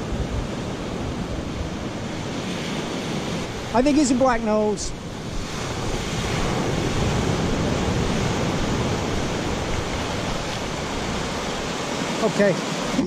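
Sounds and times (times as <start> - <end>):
ocean surf breaking on sand: 0.0 - 13.0.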